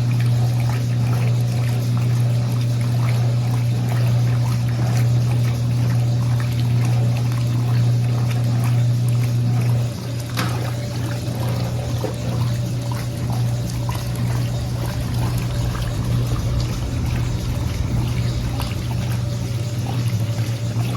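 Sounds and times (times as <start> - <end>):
washing machine motor hum: 0.0 - 20.9
water sloshing in tub: 0.0 - 20.9.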